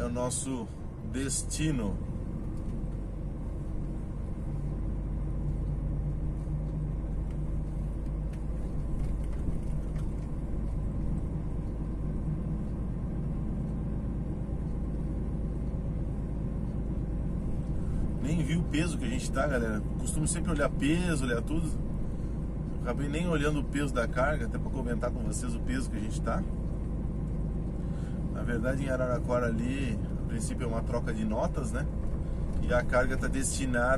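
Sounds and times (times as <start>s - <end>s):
diesel truck engine drone: 0.0s - 33.9s
road and tyre rumble: 0.0s - 33.9s.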